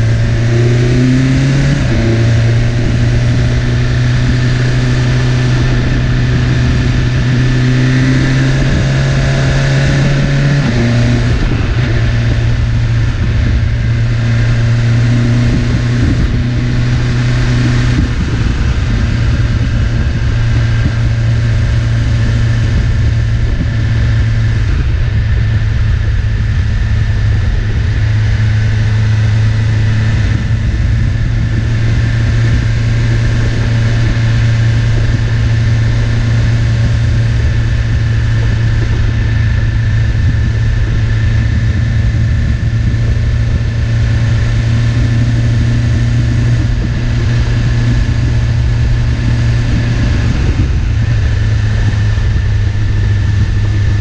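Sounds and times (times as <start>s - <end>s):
motorcycle engine running at low revs: 0.0s - 54.0s.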